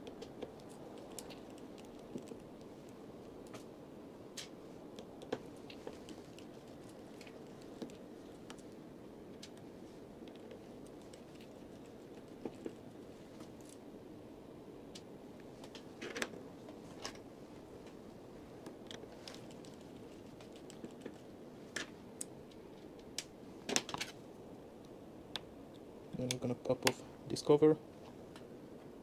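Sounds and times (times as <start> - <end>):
faint background noise: 0.0 - 29.0.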